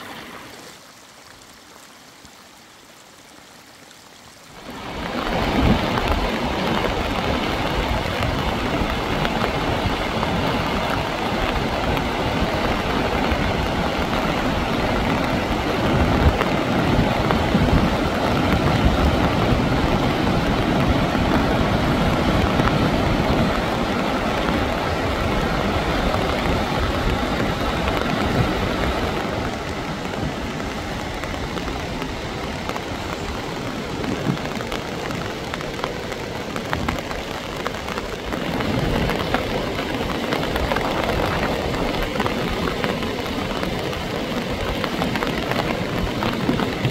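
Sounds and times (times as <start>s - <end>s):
floodwater rushing over rocks: 0.0s - 46.9s.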